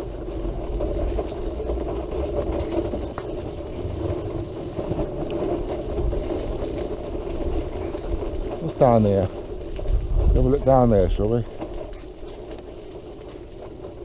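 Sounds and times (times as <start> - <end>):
wheelchair motors humming: 0.0 - 14.0
wheels rolling on pavement: 0.0 - 14.0.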